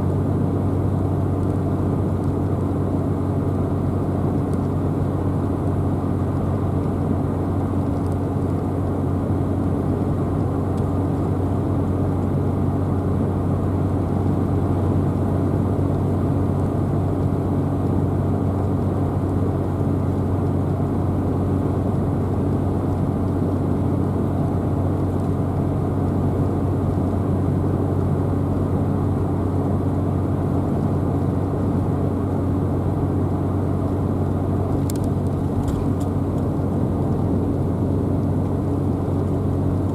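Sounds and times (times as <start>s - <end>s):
car engine and road hum: 0.0s - 39.9s.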